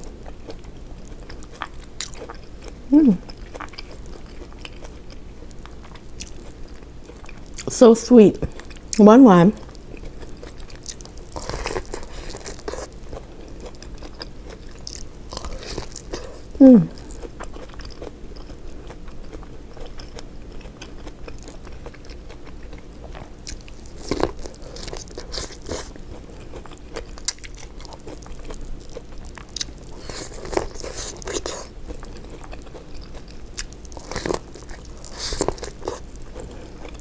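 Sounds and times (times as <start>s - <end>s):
close-miked eating and chewing: 0.0s - 37.0s.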